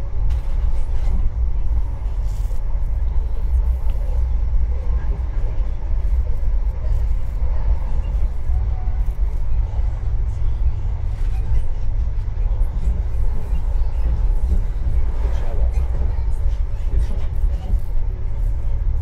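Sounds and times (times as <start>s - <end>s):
train coach rumbling on rails: 0.0s - 19.0s.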